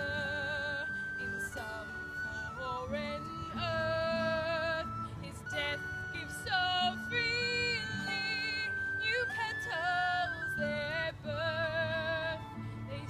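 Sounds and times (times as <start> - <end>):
woman singing with vibrato: 0.0 - 13.0.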